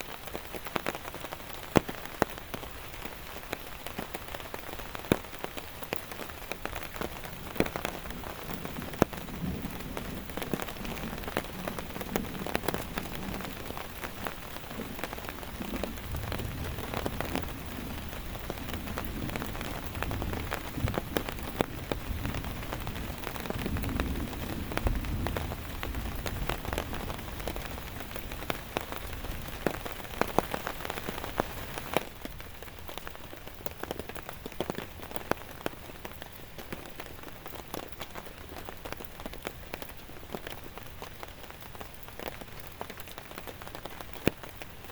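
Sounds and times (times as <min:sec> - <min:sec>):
rain drops tapping on surface: 0:00.0 - 0:44.9.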